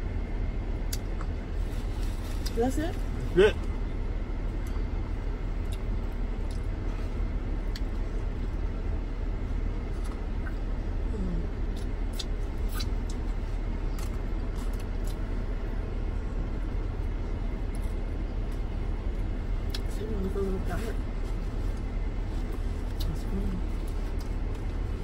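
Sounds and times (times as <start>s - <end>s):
van engine rumble: 0.0s - 25.0s.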